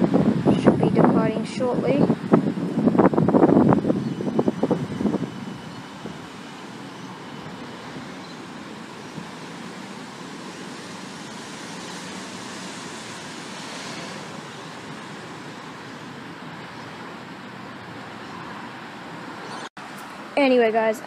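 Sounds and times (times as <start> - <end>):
wind on microphone: 0.0 - 19.6
road traffic noise: 0.0 - 21.0
vehicle passing: 2.1 - 19.6.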